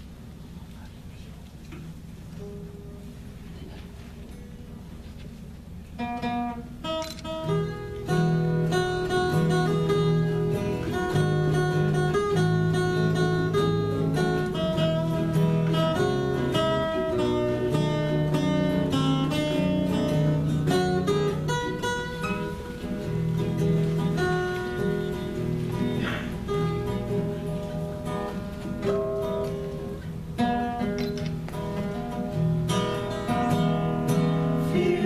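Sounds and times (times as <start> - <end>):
acoustic guitar strumming: 6.0 - 35.0.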